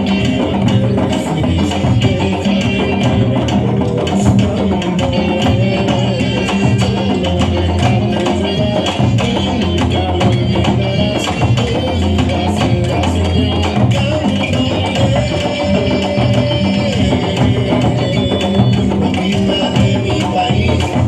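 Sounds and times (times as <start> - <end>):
drum ensemble playing: 0.0 - 21.0.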